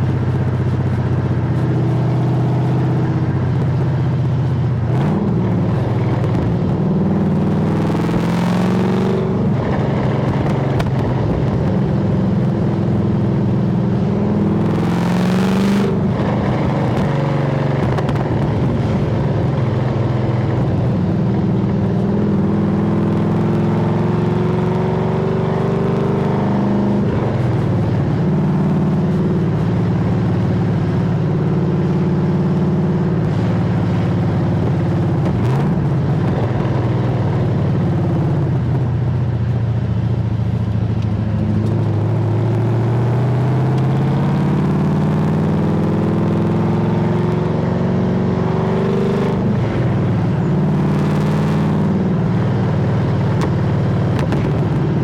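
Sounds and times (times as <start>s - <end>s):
car engine exhaust driving: 0.0s - 55.0s.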